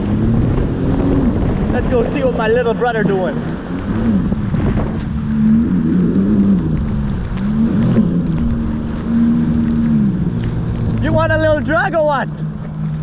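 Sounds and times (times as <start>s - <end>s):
personal watercraft engine running: 0.0s - 13.0s
wind rush on microphone: 0.0s - 13.0s.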